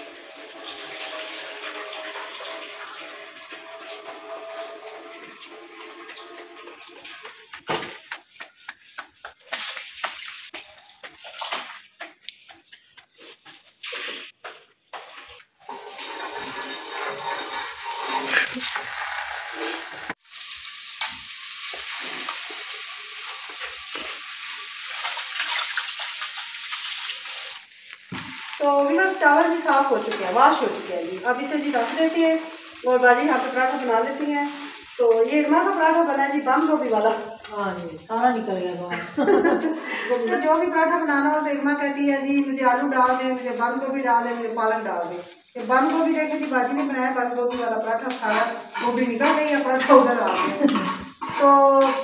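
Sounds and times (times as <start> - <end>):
fat sizzling on hot griddle: 0.0 - 10.6, 13.8 - 40.4, 42.2 - 52.0
rice rinsed in steel bowl: 0.0 - 11.8, 13.4 - 52.0
tap water running: 0.0 - 12.5, 13.5 - 52.0.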